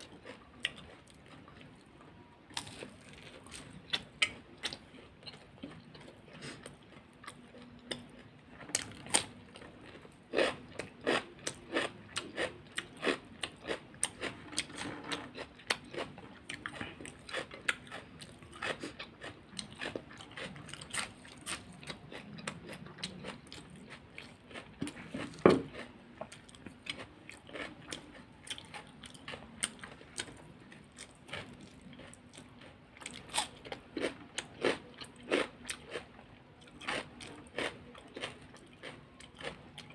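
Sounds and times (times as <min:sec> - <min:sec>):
crunching and chewing crisp food: 0:00.0 - 0:39.9.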